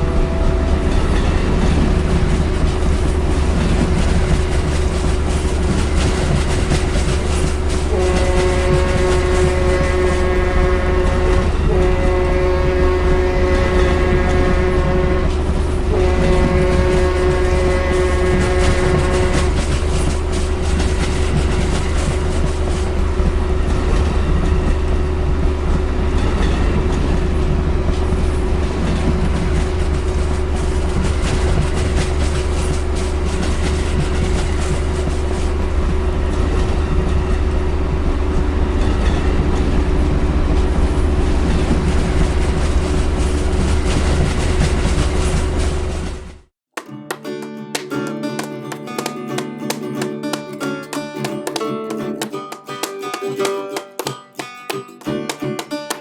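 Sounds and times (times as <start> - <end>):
train wheels clattering on track: 0.0 - 56.0.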